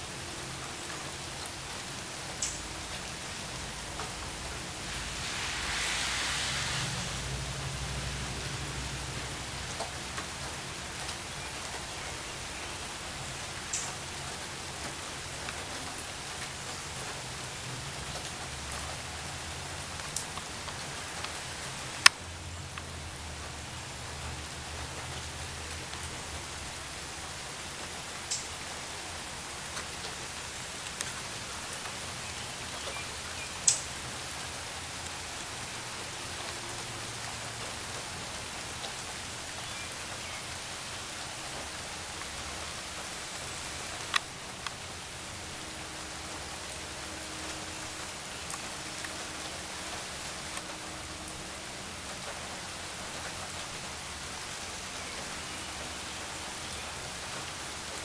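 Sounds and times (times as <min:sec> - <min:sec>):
sharp ticks of raindrops: 0:00.0 - 0:58.0
steady rain hiss: 0:00.0 - 0:58.0.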